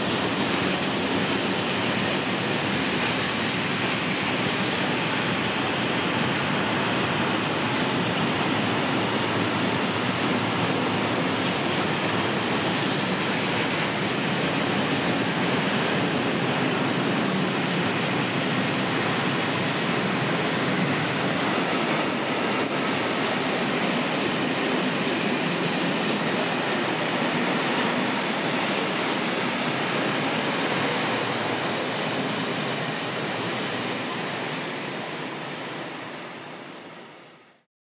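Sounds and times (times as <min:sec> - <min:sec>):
train wheels on rails: 0:00.0 - 0:37.4.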